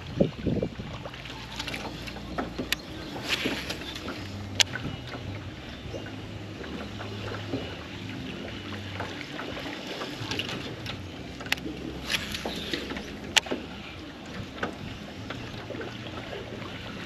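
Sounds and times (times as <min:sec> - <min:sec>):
boat background noise: 0:00.0 - 0:17.0
low hum: 0:00.0 - 0:17.0.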